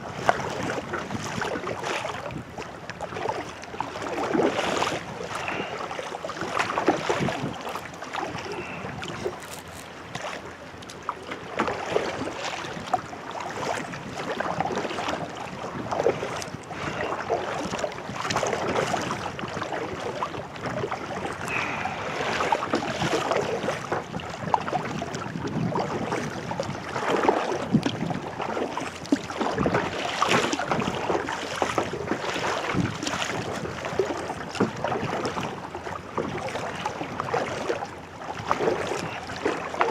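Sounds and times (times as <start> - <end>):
wind buffeting microphone: 0.0 - 5.9, 6.6 - 10.2, 11.4 - 37.4
water splashing around a kayak: 0.0 - 39.9.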